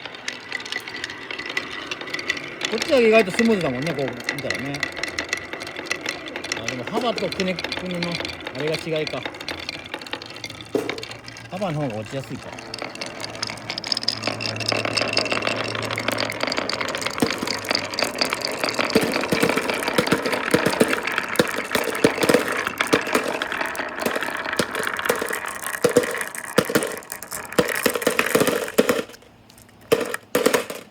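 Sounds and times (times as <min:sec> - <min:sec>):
marbles rolling down wooden track: 0:00.0 - 0:30.9.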